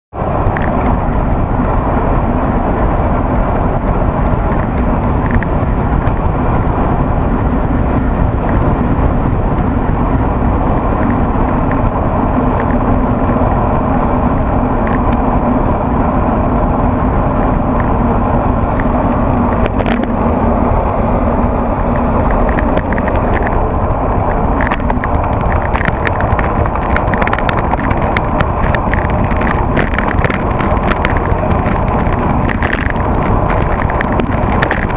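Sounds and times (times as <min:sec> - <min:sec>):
tyre noise on road: 0:00.1 - 0:34.9
wind rushing over microphone: 0:00.1 - 0:34.9
sharp clicks and rattles: 0:00.3 - 0:34.9.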